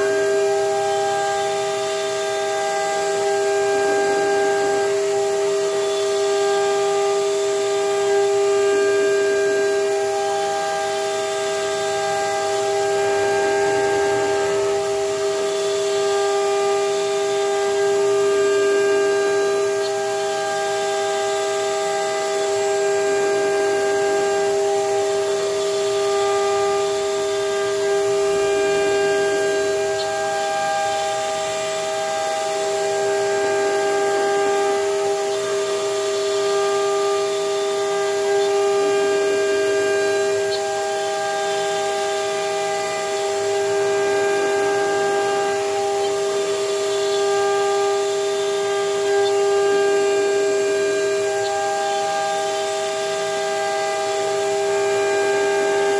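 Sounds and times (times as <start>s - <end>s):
router spindle whine cutting wood: 0.0s - 55.9s.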